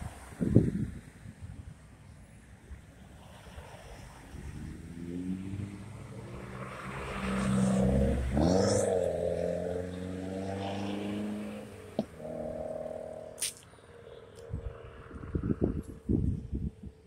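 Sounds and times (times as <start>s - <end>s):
cars driving past: 2.8s - 17.0s.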